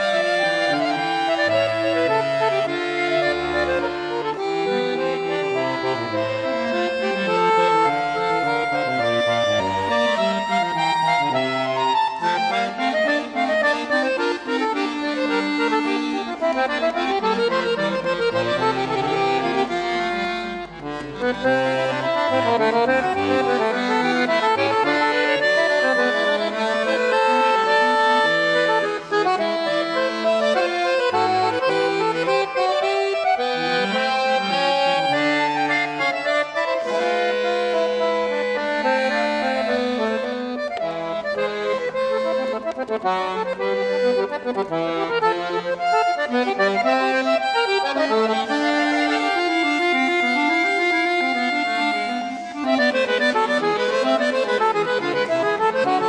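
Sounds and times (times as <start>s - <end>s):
accordion playing classical music: 0.0s - 56.0s.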